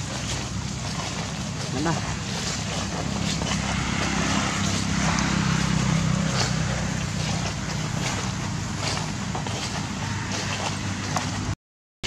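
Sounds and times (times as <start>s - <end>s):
low engine hum: 0.0s - 11.6s
steady noisy background: 0.0s - 11.6s.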